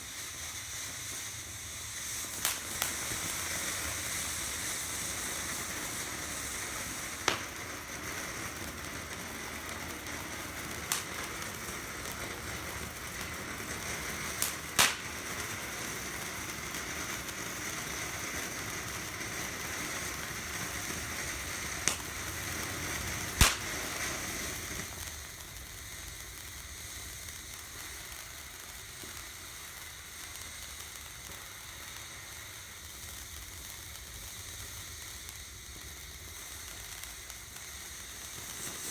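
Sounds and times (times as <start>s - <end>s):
firework fountain hissing: 0.0s - 38.9s
firework sharp pops: 0.0s - 38.9s.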